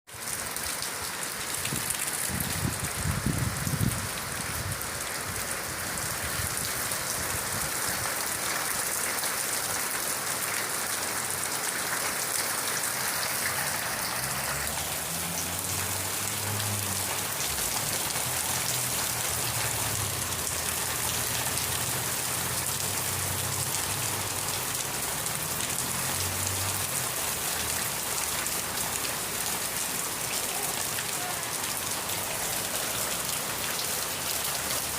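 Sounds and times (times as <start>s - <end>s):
rain falling on a surface: 0.1s - 34.9s.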